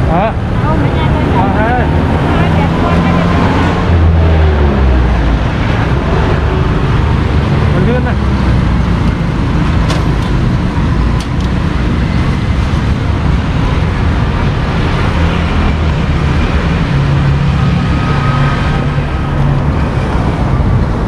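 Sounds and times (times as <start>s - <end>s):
passing vehicle engine hum: 0.0s - 21.0s
street traffic rumble: 0.0s - 21.0s.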